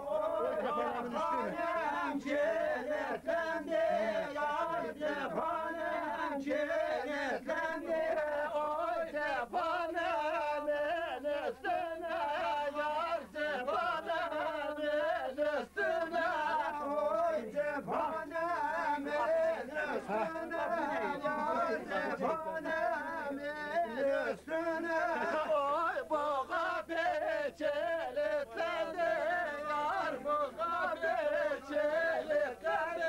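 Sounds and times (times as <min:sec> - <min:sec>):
men singing a chant: 0:00.0 - 0:33.0.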